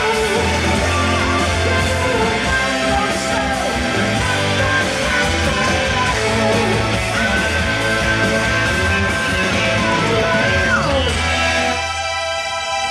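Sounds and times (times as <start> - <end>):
drums: 0.0 - 12.9
electric guitar: 0.0 - 12.9
keyboards: 0.0 - 12.9.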